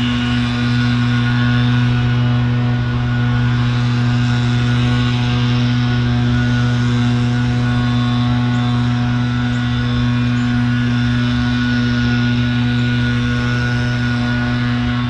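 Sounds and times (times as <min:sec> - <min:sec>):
low drone hum: 0:00.0 - 0:15.0.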